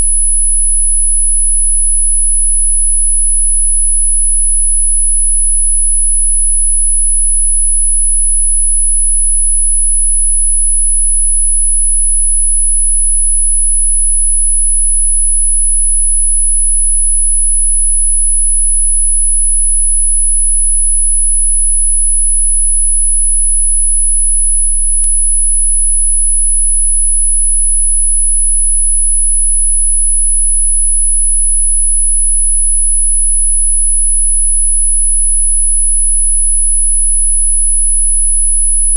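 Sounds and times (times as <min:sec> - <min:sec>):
high-pitched sine tone: 0:00.0 - 0:38.9.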